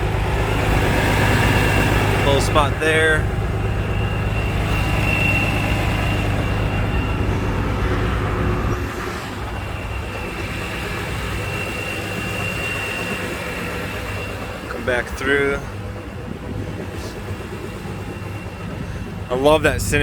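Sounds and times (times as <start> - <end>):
car engine idling: 0.0 - 20.0
faint high whine: 0.0 - 20.0.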